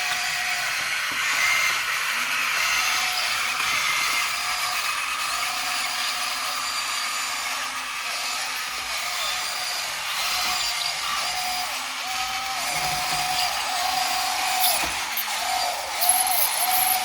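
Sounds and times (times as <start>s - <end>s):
toy electric motors whirring: 0.0s - 17.0s.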